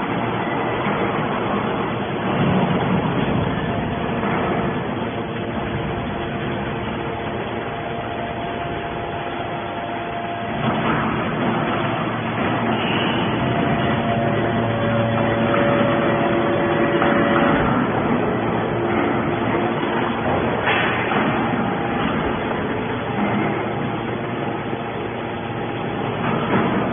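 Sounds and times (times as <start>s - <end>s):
scrap metal baler running: 0.0s - 26.9s.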